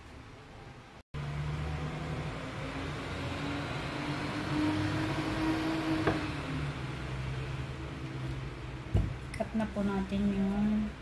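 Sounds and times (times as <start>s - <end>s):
mechanical hum with whine: 0.0s - 11.0s.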